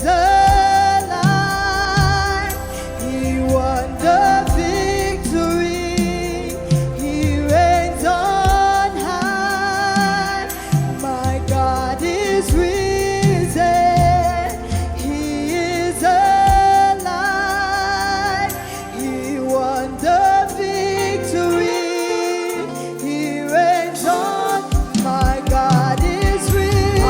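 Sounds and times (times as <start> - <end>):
band with steady bass line: 0.0 - 21.6, 24.6 - 27.0
singers holding long notes: 0.0 - 27.0.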